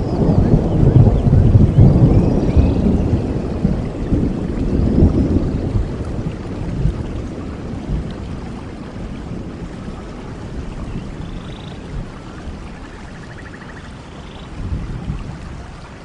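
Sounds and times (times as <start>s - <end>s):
steady rain: 0.0s - 16.0s
thunder rumbling: 0.0s - 16.0s.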